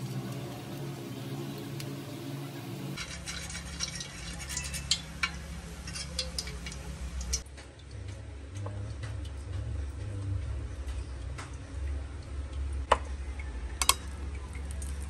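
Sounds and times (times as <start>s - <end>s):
hot oil crackling in a wok: 0.0s - 15.0s
low steady hum: 0.0s - 15.0s.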